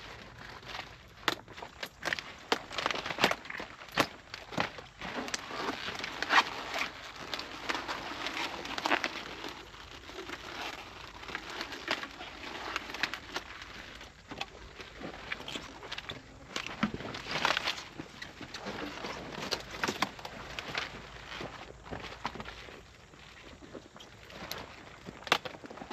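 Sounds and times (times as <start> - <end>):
leafy rustling: 0.0 - 25.9.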